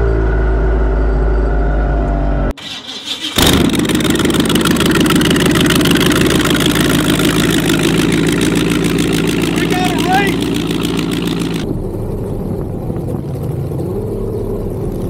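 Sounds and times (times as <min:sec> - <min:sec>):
boat engine roaring: 0:02.5 - 0:15.0.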